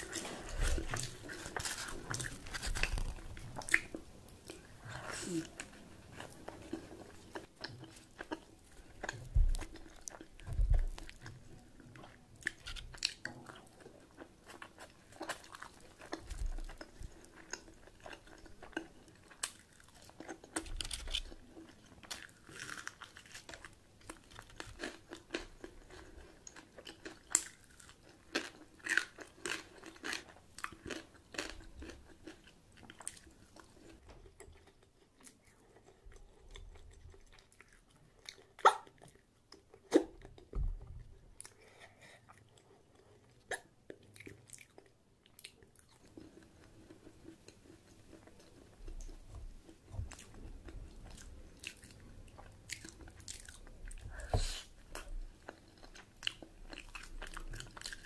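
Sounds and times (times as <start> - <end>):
person chewing and crunching food: 0.0 - 58.0.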